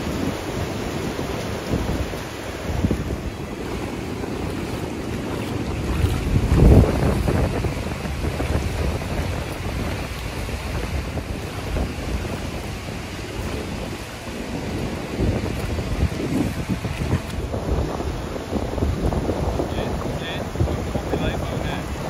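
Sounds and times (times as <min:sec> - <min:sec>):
shallow surf washing: 0:00.0 - 0:22.0
wind buffeting microphone: 0:00.0 - 0:22.0.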